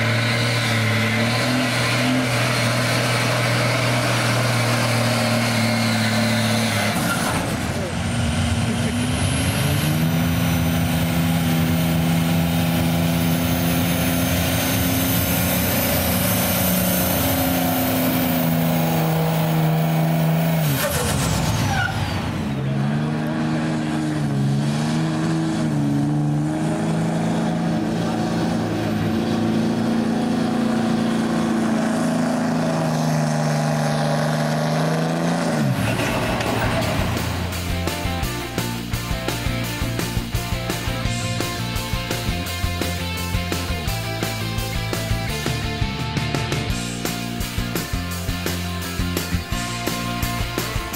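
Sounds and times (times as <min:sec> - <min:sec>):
diesel truck engine at high revs: 0:00.0 - 0:50.9.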